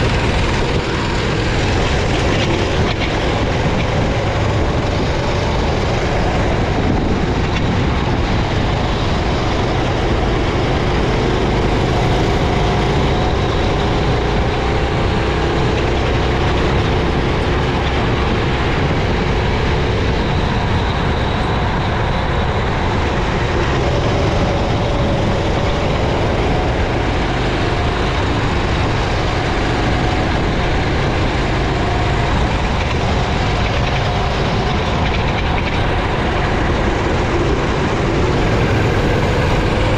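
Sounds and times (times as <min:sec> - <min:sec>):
dense rush of noise: 0:00.0 - 0:39.9
racing kart engine: 0:00.0 - 0:39.9.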